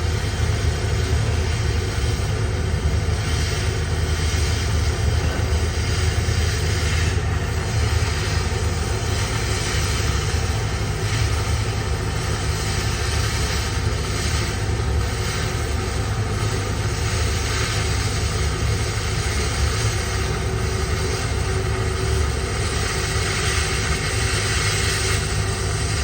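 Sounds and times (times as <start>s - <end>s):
low electrical hum: 0.0s - 26.0s
welding arc hiss: 0.0s - 26.0s.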